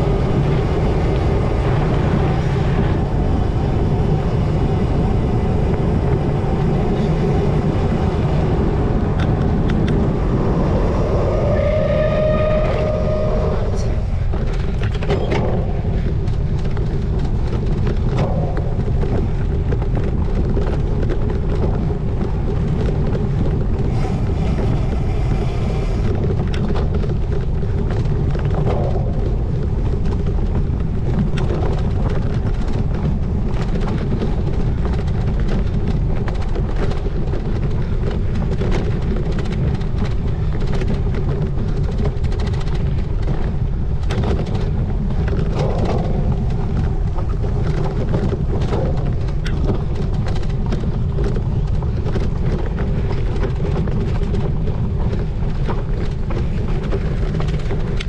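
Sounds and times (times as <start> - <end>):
bike rattling over rough ground: 0.0 - 58.0
wind rumbling on microphone: 0.0 - 58.0.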